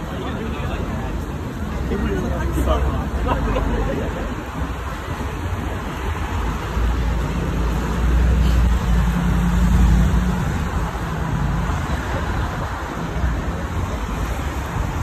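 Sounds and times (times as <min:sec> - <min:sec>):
cars driving past on wet road: 0:02.0 - 0:15.0.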